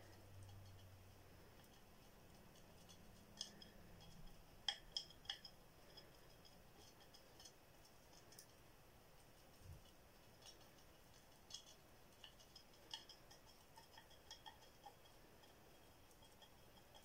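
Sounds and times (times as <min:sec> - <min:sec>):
brush clicking on crystal pieces: 0:00.1 - 0:08.6, 0:09.2 - 0:17.0.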